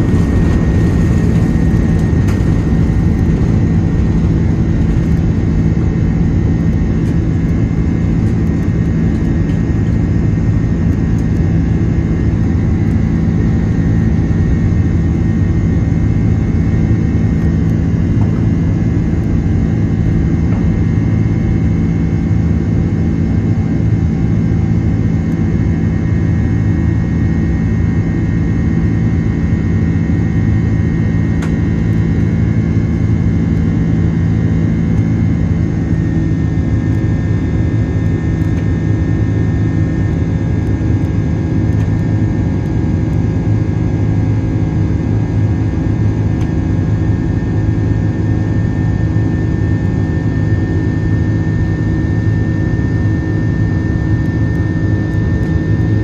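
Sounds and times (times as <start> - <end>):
jet engines droning: 0.0 - 56.0.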